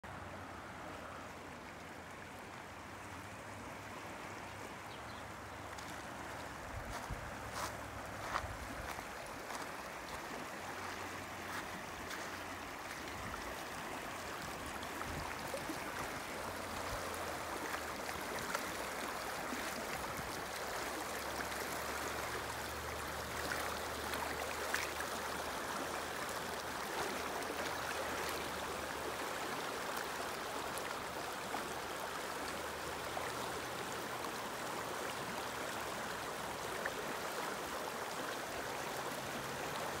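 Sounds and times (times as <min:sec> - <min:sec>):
river water rushing over rocks: 0:00.1 - 0:40.0.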